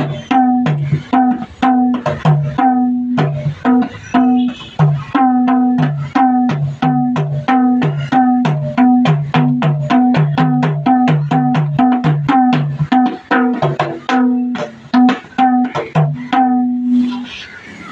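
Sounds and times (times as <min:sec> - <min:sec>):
hand drum played in quick rhythm: 0:00.0 - 0:17.2.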